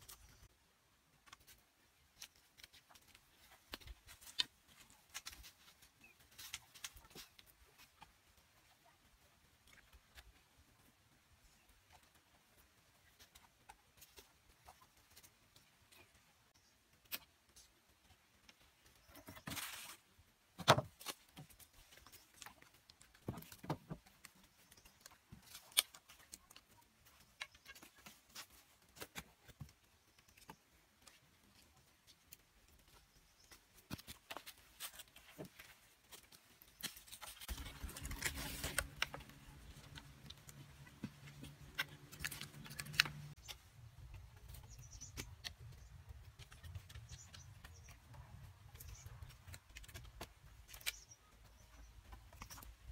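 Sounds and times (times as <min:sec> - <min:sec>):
bamboo poles knocking and scraping: 0:01.2 - 0:08.6, 0:11.8 - 0:52.9.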